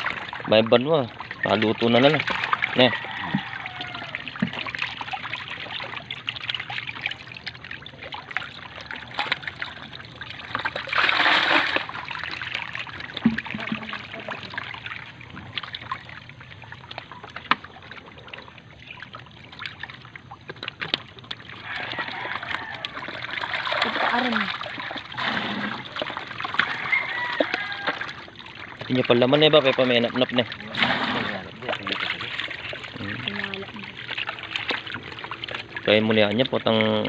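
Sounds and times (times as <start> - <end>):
fish splashing in water: 0.0 - 37.0.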